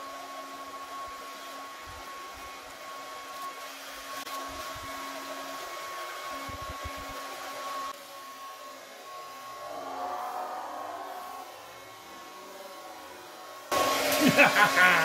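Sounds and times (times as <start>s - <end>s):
hair dryer blowing with whine: 0.0s - 15.0s.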